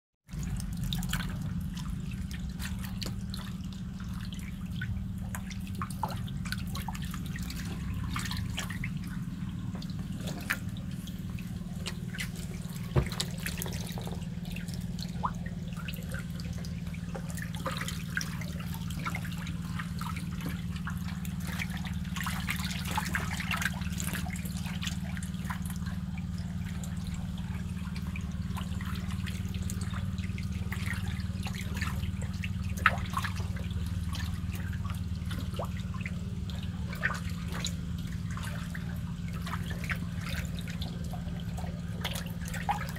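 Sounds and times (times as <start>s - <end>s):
steady low hum: 0.3s - 42.9s
water trickling and dripping: 0.3s - 42.9s.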